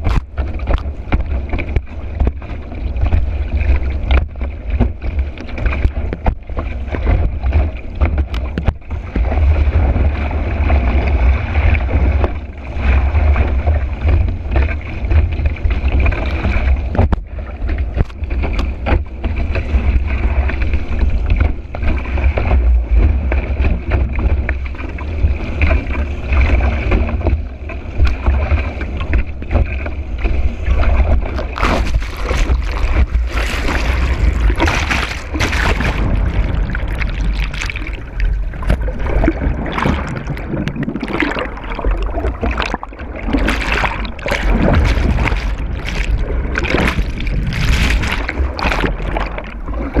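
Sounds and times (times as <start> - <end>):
water rushing under board: 0.0 - 50.0
wind buffeting camera: 0.0 - 50.0.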